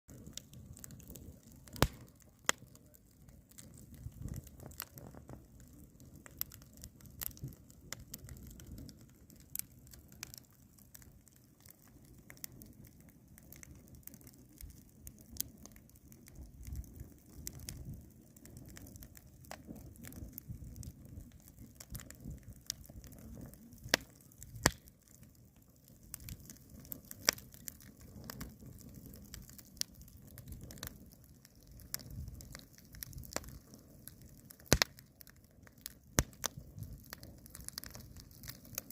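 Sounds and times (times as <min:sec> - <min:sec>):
low rumble of burning fire: 0:00.1 - 0:38.9
wood fire crackling and popping: 0:00.1 - 0:38.9.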